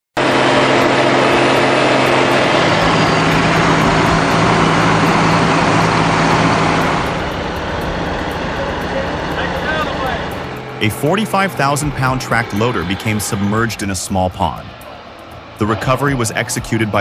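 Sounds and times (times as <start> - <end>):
heavy diesel engine running hard: 0.1 - 17.0.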